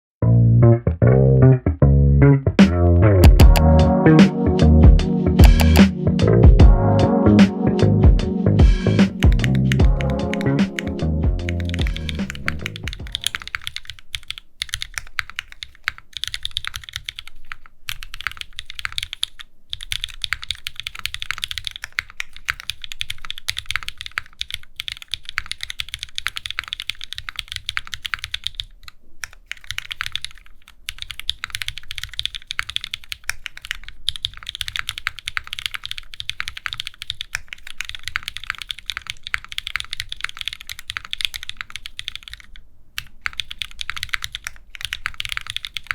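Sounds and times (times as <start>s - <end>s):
mechanical keyboard typing: 5.4s - 5.9s, 9.0s - 45.9s.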